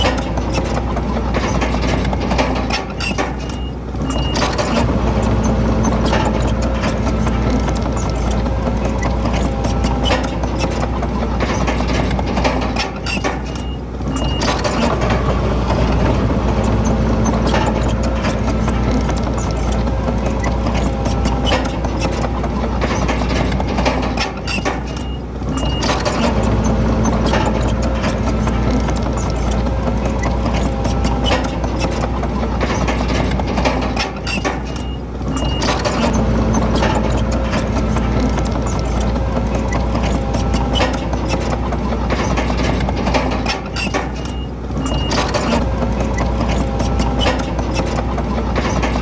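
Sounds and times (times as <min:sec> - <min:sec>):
clattering and rattling: 0:00.0 - 0:49.0
diesel engine running: 0:00.0 - 0:49.0
steel tracks clanking: 0:00.0 - 0:49.0.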